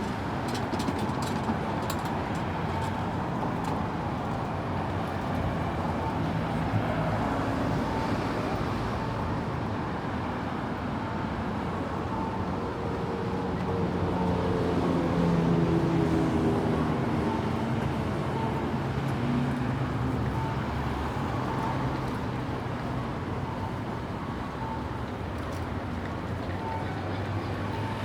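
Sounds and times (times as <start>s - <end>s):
traffic hum: 0.0s - 28.0s.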